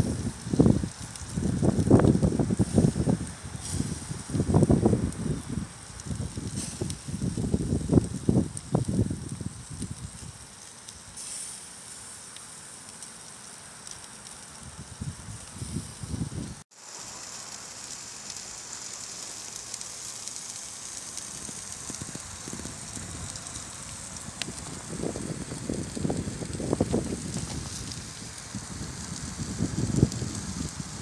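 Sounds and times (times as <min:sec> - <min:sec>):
fat crackling and popping: 0:00.0 - 0:31.0
steak sizzling on grill: 0:00.0 - 0:31.0.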